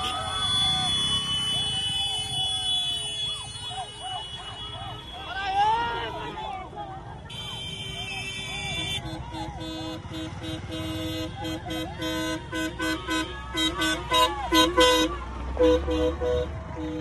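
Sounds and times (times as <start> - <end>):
passing vehicles and motorcycles: 0.0 - 17.0
vehicle horns tooting: 0.0 - 17.0.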